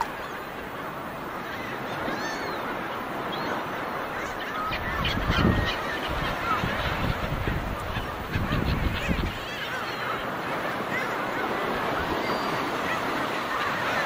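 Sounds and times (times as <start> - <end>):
gulls squawking: 0.0 - 14.0.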